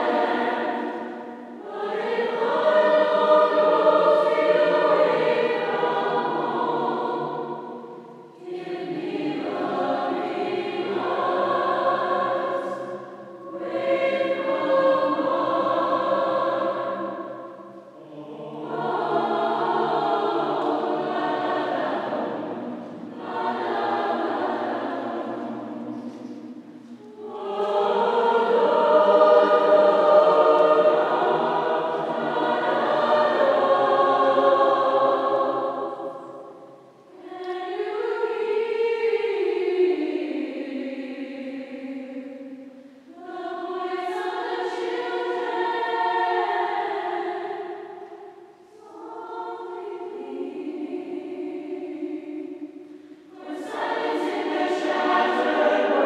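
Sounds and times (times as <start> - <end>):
large choir singing: 0.0 - 56.0.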